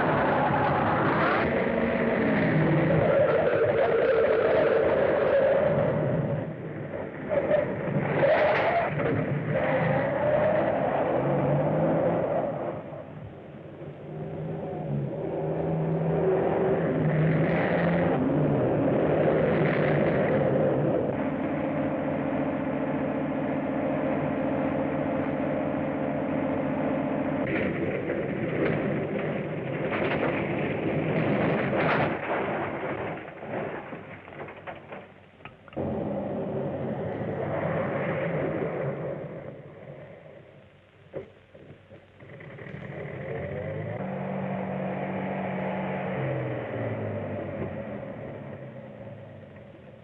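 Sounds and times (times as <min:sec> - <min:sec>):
vehicle engine rumbling: 0:00.0 - 0:50.0.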